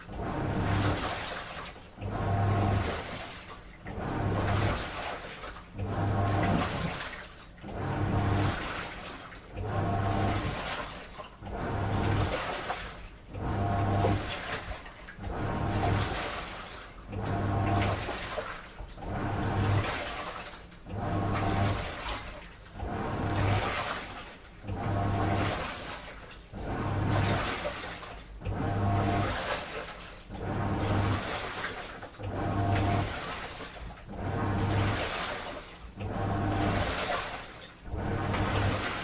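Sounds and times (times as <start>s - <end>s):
motor hum: 0.0s - 39.0s
washing machine drum turning: 0.0s - 39.0s
water and laundry sloshing: 0.0s - 39.0s.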